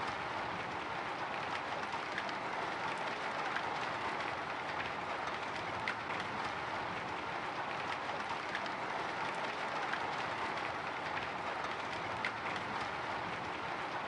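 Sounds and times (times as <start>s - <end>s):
rain hissing on a window: 0.0s - 14.0s
raindrop ticks: 0.0s - 14.0s.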